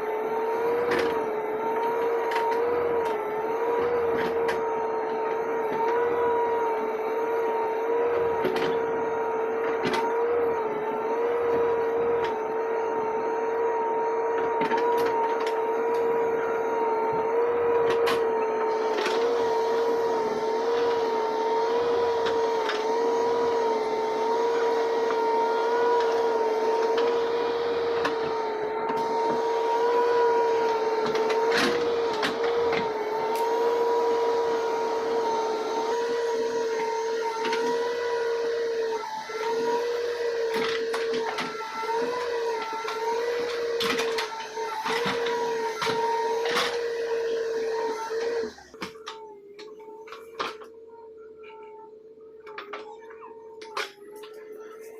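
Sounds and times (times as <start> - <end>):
machinery high-pitched whine: 0.0 - 54.9.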